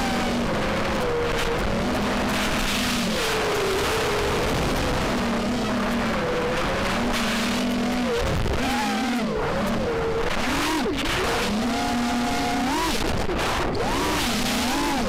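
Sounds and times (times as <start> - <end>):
drone motors whining: 0.0 - 15.0
wind and propeller noise: 0.0 - 15.0.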